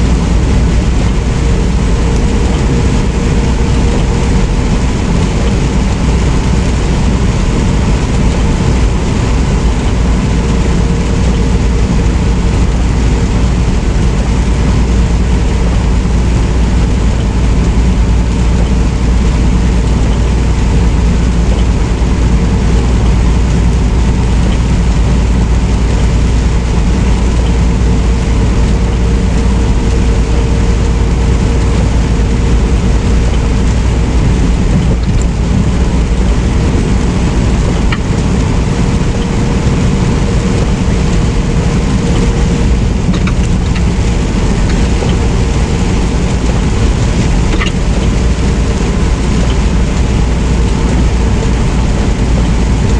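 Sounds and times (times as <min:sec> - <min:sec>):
truck engine and road noise: 0:00.0 - 0:52.9.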